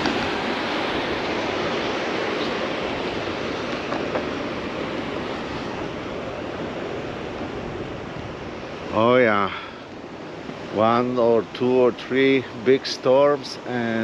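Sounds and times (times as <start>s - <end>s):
ocean surf washing on shore: 0.0s - 14.0s.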